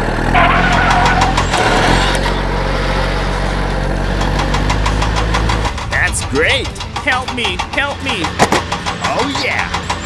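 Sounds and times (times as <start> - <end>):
tractor engine humming: 0.0 - 10.0.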